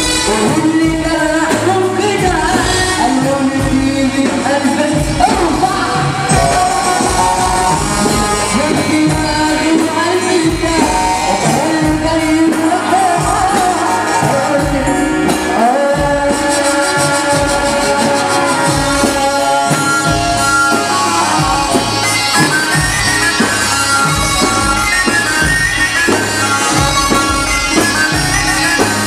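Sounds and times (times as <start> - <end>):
heavy drum beat: 0.0 - 29.0
keyboard: 0.0 - 29.0
man singing into microphone: 0.0 - 29.0.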